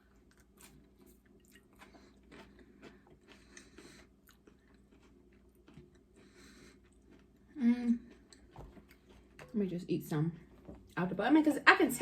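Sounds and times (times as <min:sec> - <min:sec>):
faint chewing with crunches: 0:00.0 - 0:09.8.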